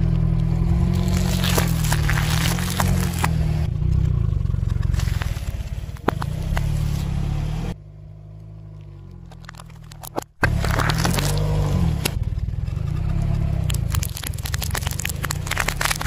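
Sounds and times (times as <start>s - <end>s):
plastic cracking under tyre: 0.0s - 6.8s, 8.8s - 12.2s, 12.8s - 16.0s
car engine rumble: 0.0s - 16.0s.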